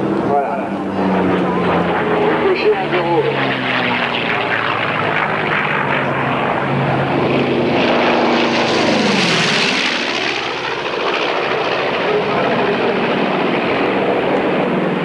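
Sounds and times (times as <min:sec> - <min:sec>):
propeller plane flying past: 0:00.0 - 0:15.0.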